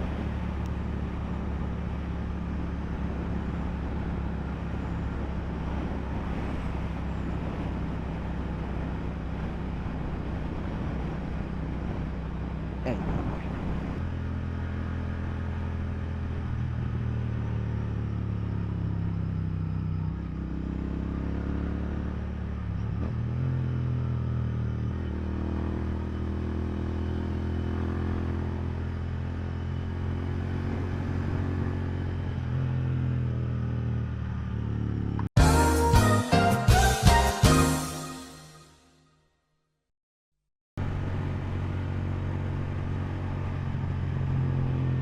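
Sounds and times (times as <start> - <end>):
wind and road rush: 0.0 - 35.4, 40.8 - 45.0.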